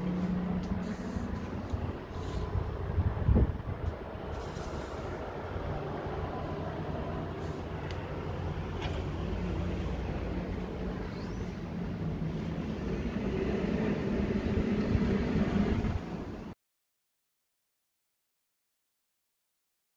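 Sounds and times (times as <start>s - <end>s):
low outdoor rumble: 0.0s - 16.6s.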